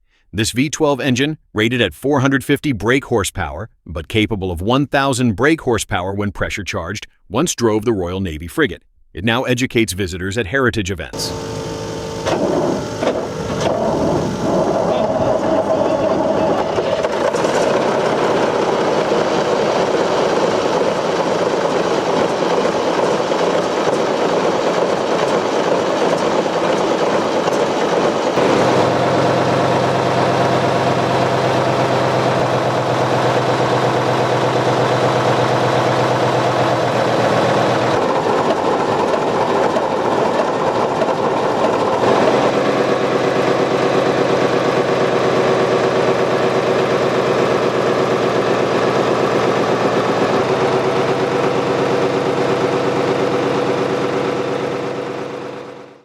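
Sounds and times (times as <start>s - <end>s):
deeper steady engine note: 11.1s - 56.0s
diesel engine running: 11.1s - 56.0s.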